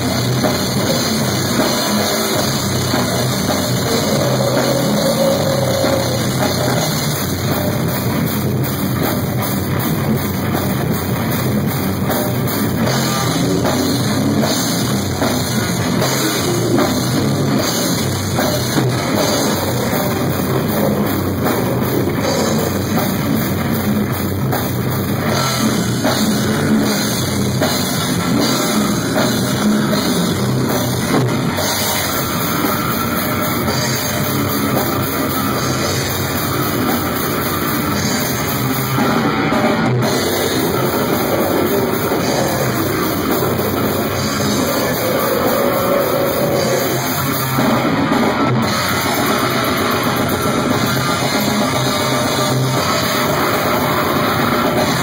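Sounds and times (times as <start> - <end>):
distorted electric guitar: 0.0 - 55.0
drum kit: 0.0 - 55.0
heavy metal band playing: 0.0 - 55.0.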